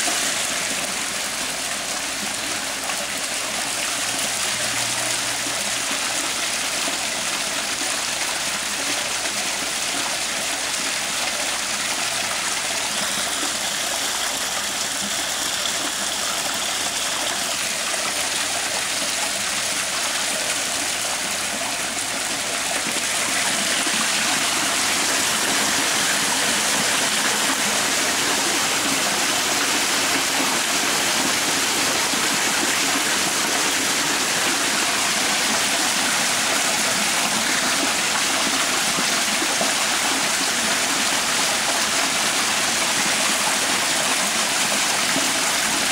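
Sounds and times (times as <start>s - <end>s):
floodwater rushing: 0.0s - 45.9s.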